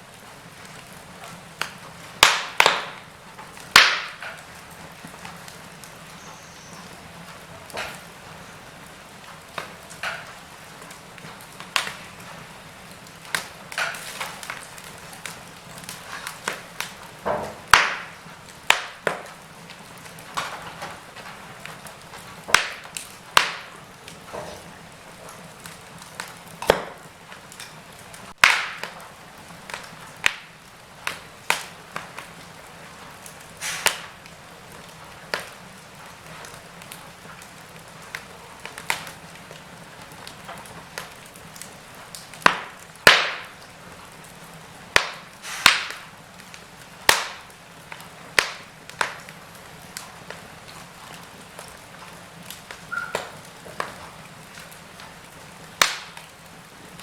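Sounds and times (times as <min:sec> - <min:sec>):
fire crackling and popping: 0:00.0 - 0:57.0
soft hiss of flames: 0:00.0 - 0:57.0.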